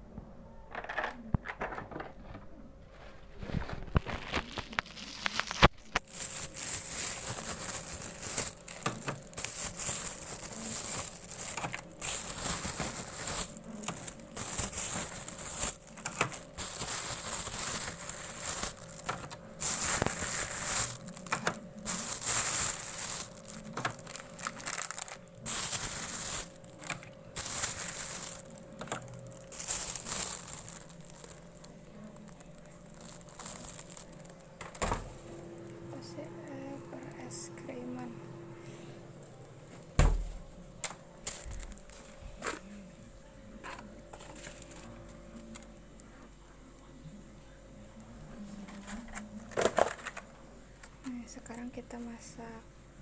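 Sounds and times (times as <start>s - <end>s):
faint steady hum: 0.0s - 53.0s
plastic bags crinkling: 3.4s - 38.1s, 39.1s - 46.3s, 48.3s - 52.3s.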